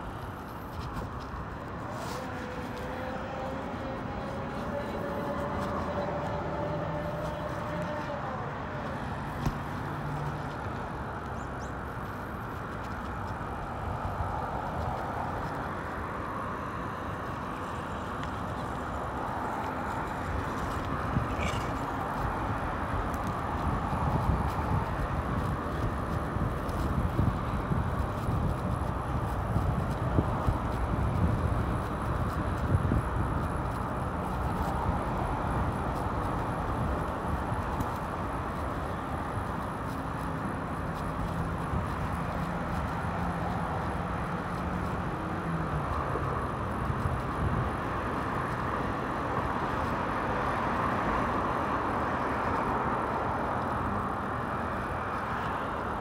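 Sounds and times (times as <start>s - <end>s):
bicycle tyre noise on pavement: 0.0s - 56.0s
wind rushing over microphone: 0.0s - 56.0s.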